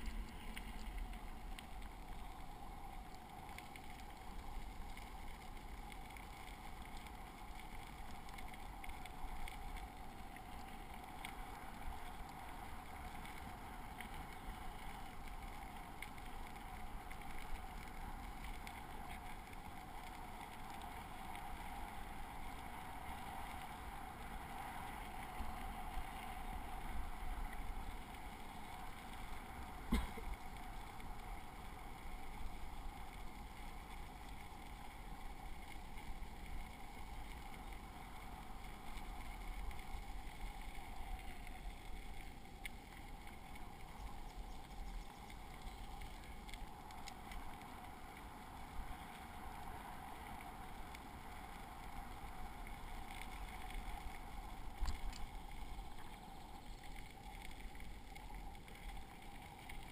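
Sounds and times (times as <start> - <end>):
bicycle tyres rolling on gravel: 0.0 - 59.9
small clicks: 0.0 - 59.9.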